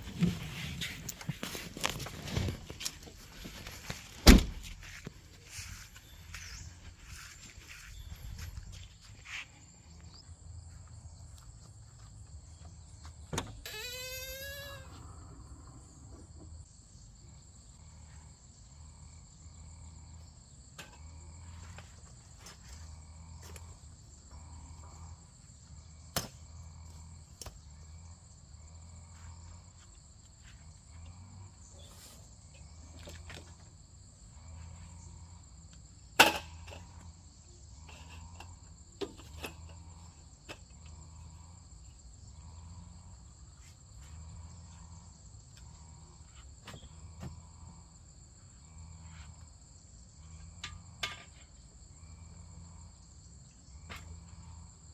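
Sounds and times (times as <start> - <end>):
insects calling: 0.0 - 54.9.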